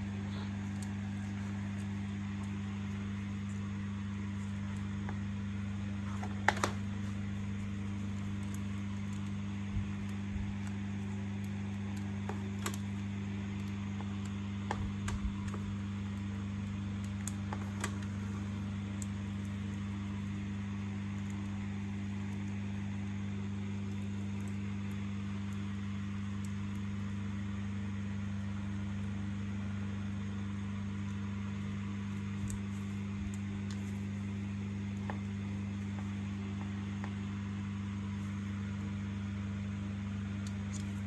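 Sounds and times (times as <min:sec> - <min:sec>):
low electrical hum: 0:00.0 - 0:41.0
small clicks and taps: 0:00.3 - 0:27.2, 0:30.1 - 0:37.4.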